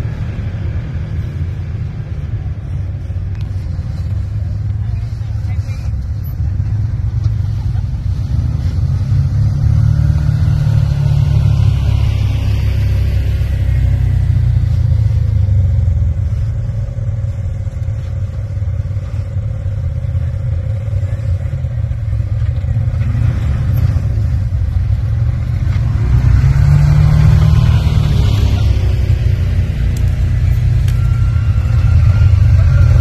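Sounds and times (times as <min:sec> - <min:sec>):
utility vehicle engines rumbling: 0:00.0 - 0:33.0.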